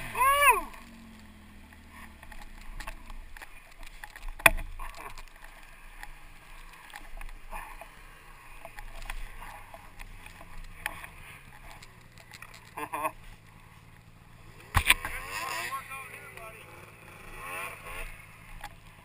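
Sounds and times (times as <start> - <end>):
snow scraping and crunching: 0.0 - 19.0
snowmobile engine idling: 0.0 - 19.0.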